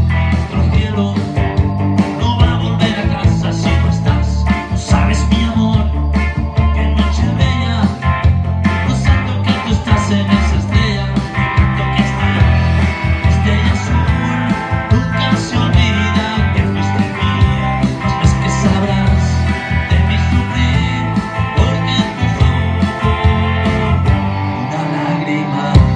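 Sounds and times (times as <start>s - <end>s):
drum beat: 0.0s - 24.3s
bass notes: 0.0s - 25.9s
electric guitar playing: 0.0s - 25.9s.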